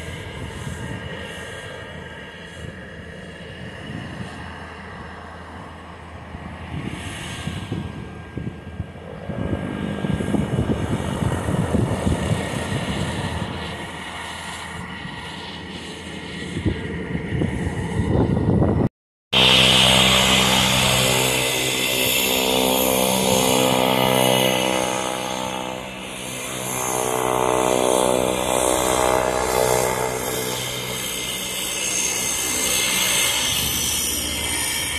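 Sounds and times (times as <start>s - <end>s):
turboprop propeller drone: 0.0s - 34.9s.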